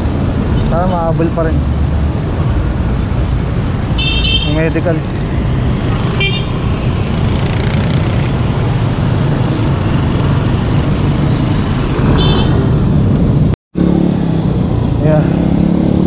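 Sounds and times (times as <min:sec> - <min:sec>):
motorcycles passing: 0:00.0 - 0:16.0
street traffic noise: 0:00.0 - 0:16.0.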